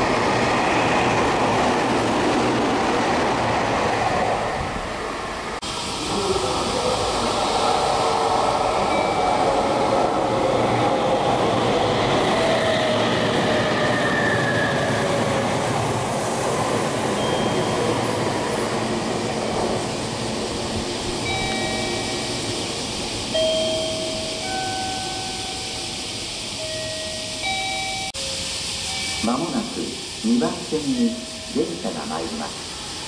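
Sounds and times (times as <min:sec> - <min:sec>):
train wheels rushing on rail: 0:00.0 - 0:33.0.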